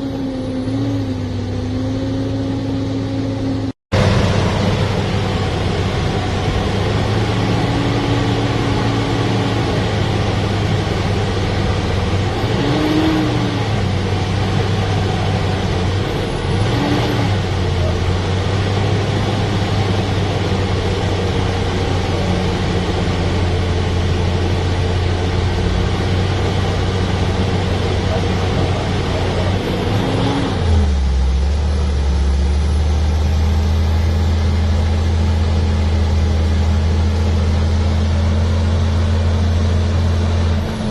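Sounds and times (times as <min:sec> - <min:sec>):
deep engine drone: 0:00.0 - 0:40.9
heavy vehicle engines running: 0:00.0 - 0:40.9.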